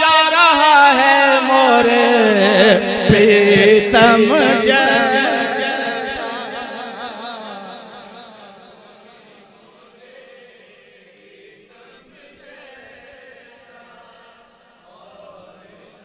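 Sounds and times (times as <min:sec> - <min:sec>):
group chanting in unison: 0:01.6 - 0:16.0.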